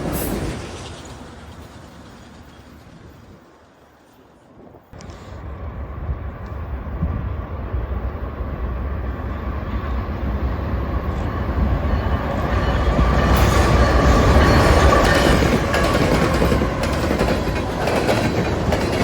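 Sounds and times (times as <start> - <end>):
train rumbling by: 0.0 - 19.0.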